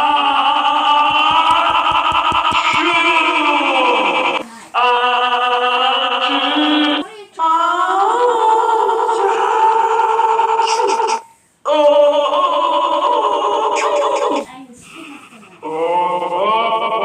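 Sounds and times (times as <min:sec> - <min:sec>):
processed synthetic singing voice: 0:00.0 - 0:14.5.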